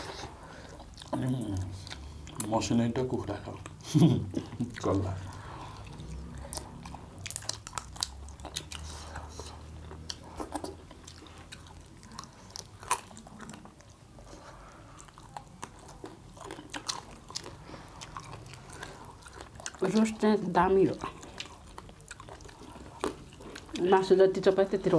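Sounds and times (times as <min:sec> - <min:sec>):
chewing and biting: 0:00.0 - 0:02.6, 0:03.2 - 0:24.1.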